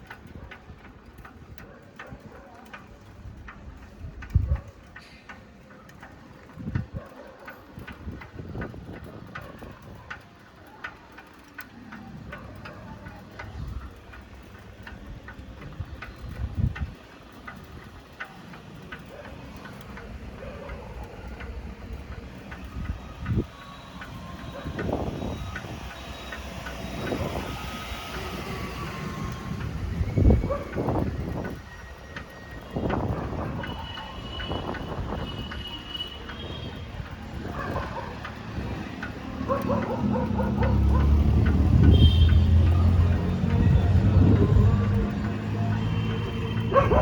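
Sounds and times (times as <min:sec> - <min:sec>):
bicycle ticking and rattling: 0:00.0 - 0:47.0.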